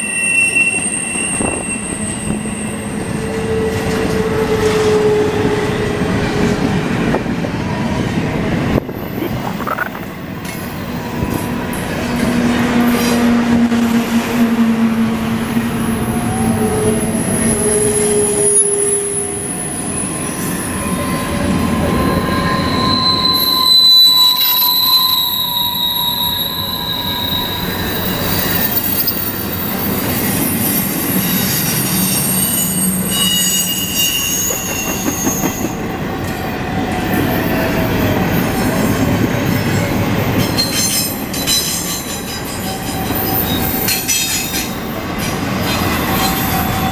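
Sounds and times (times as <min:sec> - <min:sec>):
train wheels squealing on rail: 0:00.0 - 0:06.9, 0:08.8 - 0:46.9.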